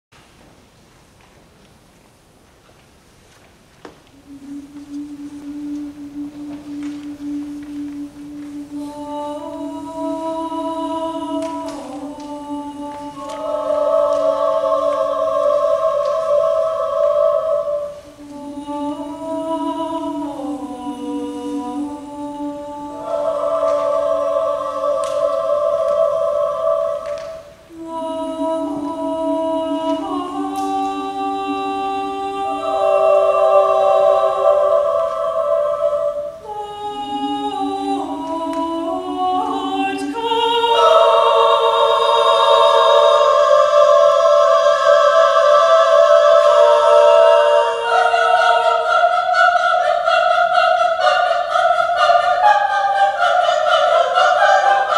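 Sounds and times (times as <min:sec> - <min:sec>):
choir singing a cappella: 0:04.1 - 0:54.9.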